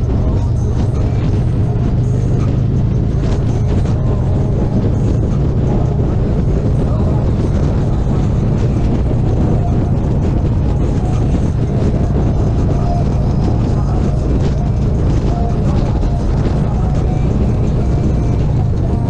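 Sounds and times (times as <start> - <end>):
motorcycle engine low rumble: 0.0 - 19.0.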